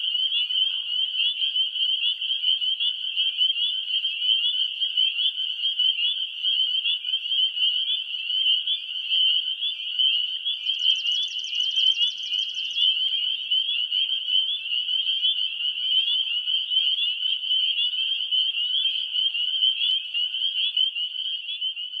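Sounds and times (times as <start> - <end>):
frogs chorus peeping: 0.0 - 22.0.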